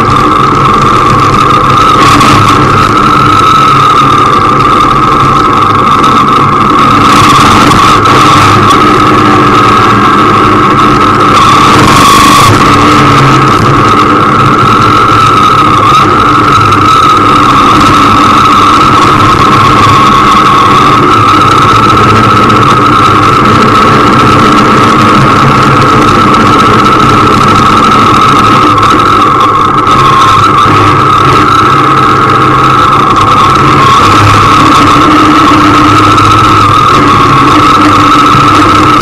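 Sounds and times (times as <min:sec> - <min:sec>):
motorcycle engine running: 0:00.0 - 0:39.0
road noise: 0:00.0 - 0:39.0.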